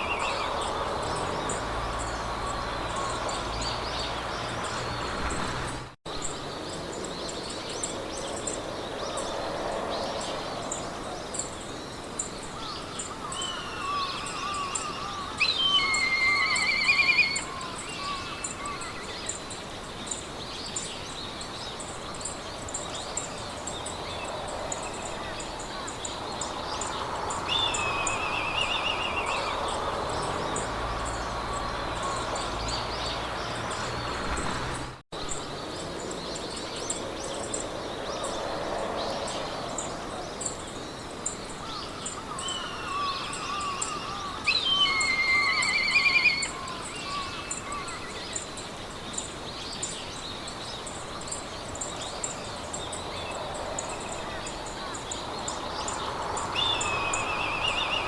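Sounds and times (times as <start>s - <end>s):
soft wind: 0.0s - 58.0s
songbirds singing: 0.0s - 58.0s.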